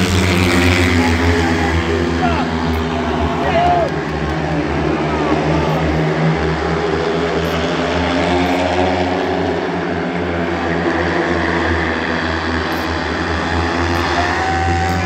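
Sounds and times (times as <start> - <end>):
motorcycles racing at high revs: 0.0 - 15.0.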